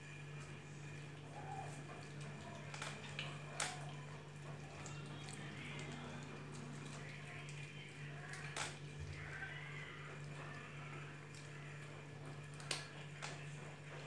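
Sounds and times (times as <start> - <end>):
kittens chewing wetly: 0.0 - 14.0.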